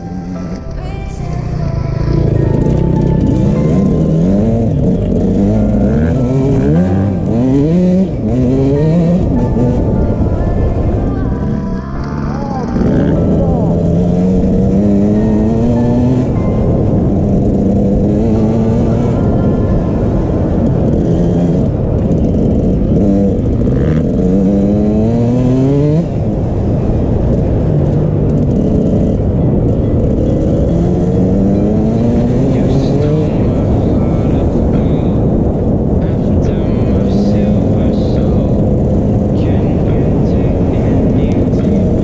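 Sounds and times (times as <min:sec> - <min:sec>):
dirt bike engine revving: 0:01.4 - 0:16.5, 0:17.2 - 0:42.0.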